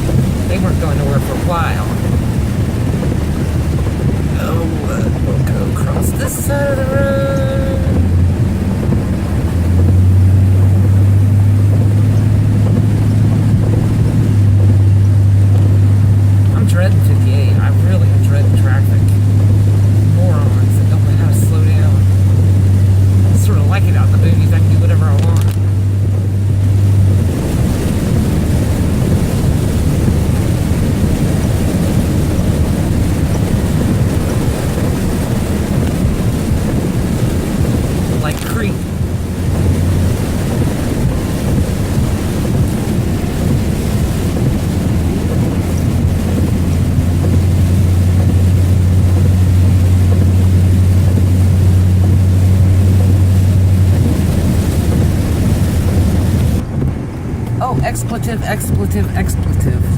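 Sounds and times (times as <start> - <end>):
low hum: 0.0 - 59.9
truck engine and tyres drone: 0.0 - 59.9
water hissing from tyres: 0.0 - 59.9.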